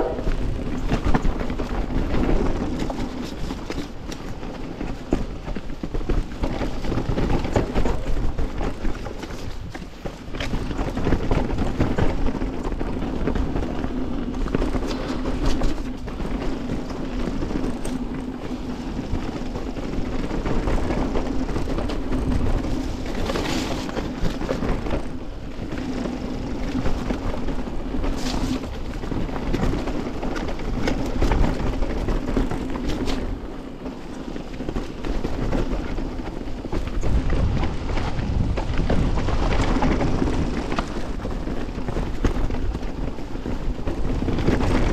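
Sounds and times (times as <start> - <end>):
bike rattling over bumps: 0.0 - 44.9
tyres rolling over dirt and leaves: 0.0 - 44.9.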